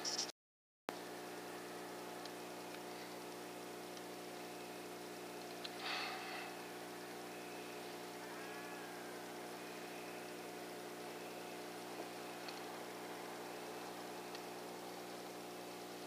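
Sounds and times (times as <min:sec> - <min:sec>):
electrical hum with hiss: 0:00.9 - 0:16.0.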